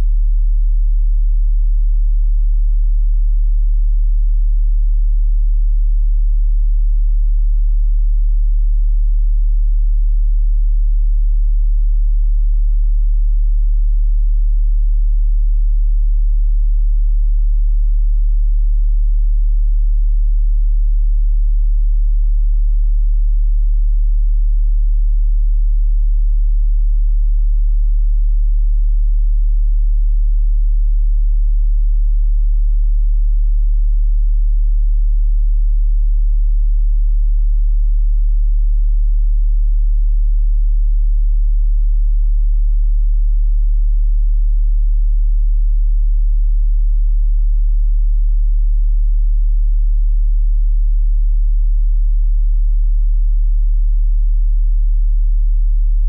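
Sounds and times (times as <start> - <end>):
deep sine tone: 0.0 - 56.0.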